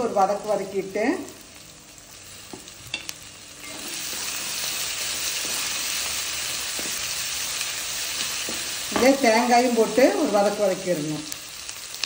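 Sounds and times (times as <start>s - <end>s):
frying sizzle in oil: 0.0s - 12.0s.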